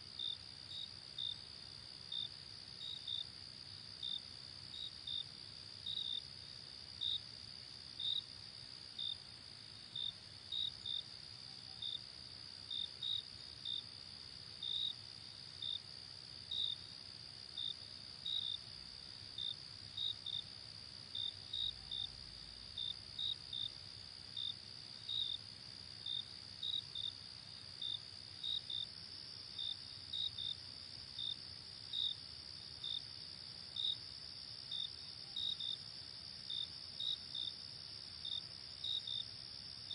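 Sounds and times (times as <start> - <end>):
cricket chirps: 0.0 - 39.9.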